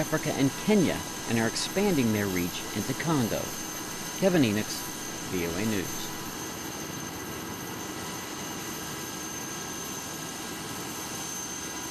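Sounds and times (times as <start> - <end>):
helicopter turbine whine: 0.0 - 11.9.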